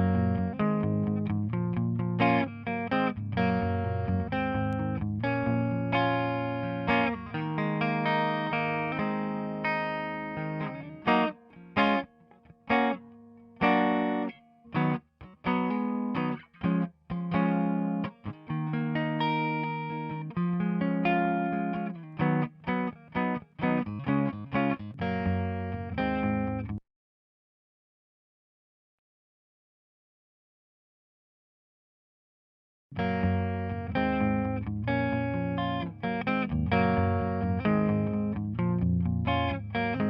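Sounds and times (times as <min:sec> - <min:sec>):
electric guitar chords and stabs: 0:00.0 - 0:12.1, 0:12.7 - 0:26.8, 0:33.0 - 0:40.0.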